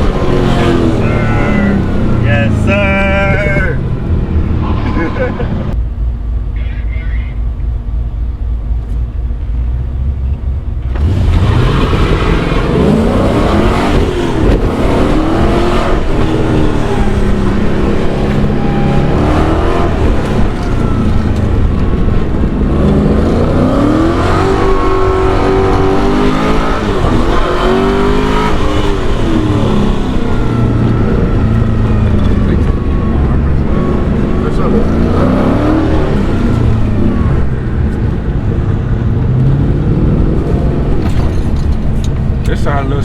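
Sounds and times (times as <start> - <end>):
car engine revving: 0.0 - 5.9, 9.5 - 43.0.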